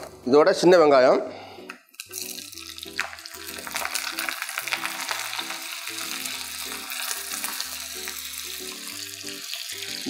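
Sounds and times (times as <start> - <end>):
soft background music: 0.0 - 10.0
shallots sizzling in hot oil: 1.9 - 10.0.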